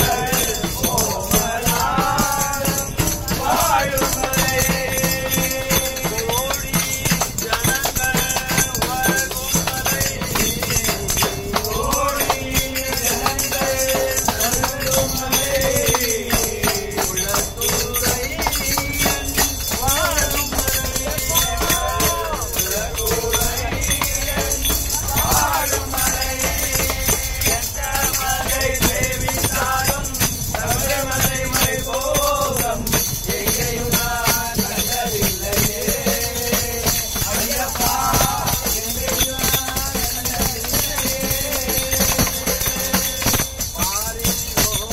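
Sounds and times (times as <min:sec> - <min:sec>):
clinking hand percussion: 0:00.0 - 0:44.9
group singing devotional song: 0:00.0 - 0:44.9
tambourine jingles: 0:00.0 - 0:44.9.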